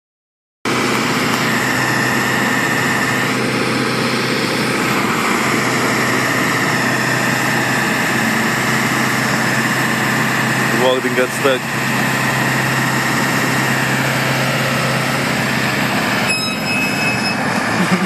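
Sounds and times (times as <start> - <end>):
truck engines idling: 0.7 - 18.0.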